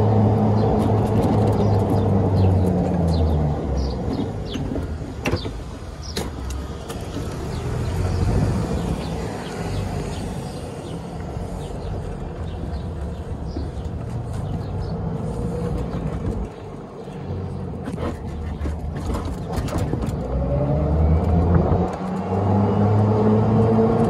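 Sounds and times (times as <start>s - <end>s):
golf cart driving: 0.0s - 24.0s.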